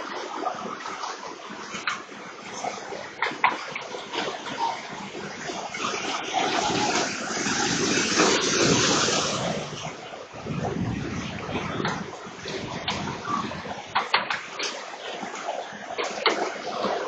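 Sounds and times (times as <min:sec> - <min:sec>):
floodwater splashing and surging: 0:00.0 - 0:17.0.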